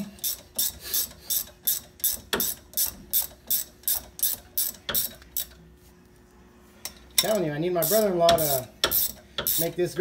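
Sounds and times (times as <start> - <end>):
ratchet clicking: 0.1 - 5.6, 7.2 - 9.8.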